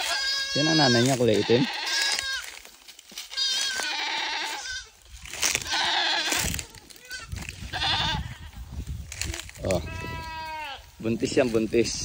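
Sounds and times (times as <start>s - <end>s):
goat kid bleating: 0.0s - 11.0s.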